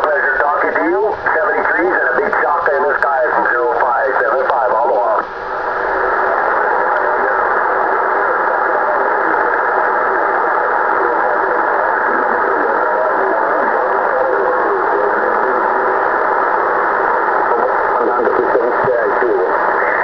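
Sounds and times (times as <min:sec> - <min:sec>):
faint steady tones: 0:00.0 - 0:20.0
radio static hiss: 0:00.0 - 0:20.0.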